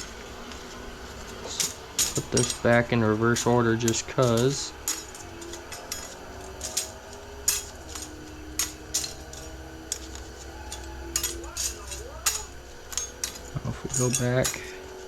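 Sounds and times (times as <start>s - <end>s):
metal clutch plates clinking: 0.0s - 15.0s.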